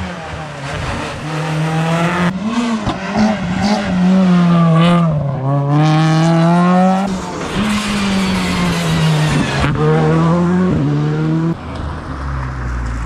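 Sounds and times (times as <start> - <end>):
car engine revving hard: 0.0 - 11.6.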